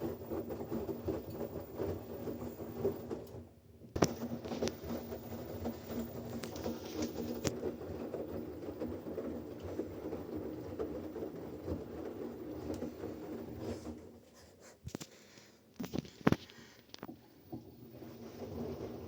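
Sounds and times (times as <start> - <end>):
washing machine drum churning: 0.0 - 14.2, 17.0 - 19.0.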